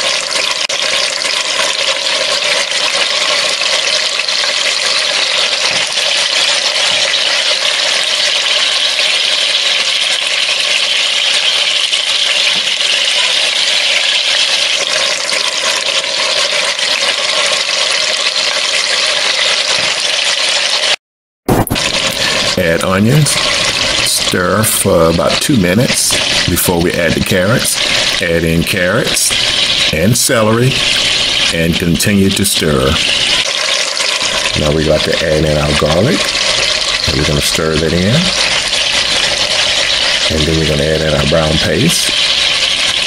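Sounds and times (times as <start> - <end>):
meat sizzling in hot oil: 0.0 - 43.0.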